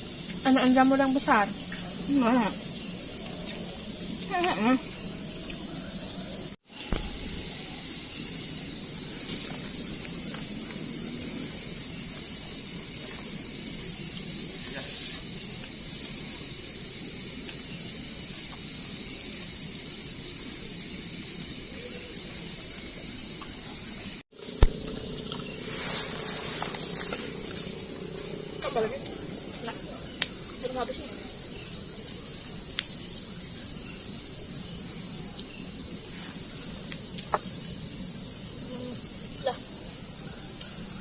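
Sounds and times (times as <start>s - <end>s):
crickets trilling: 0.0s - 41.0s.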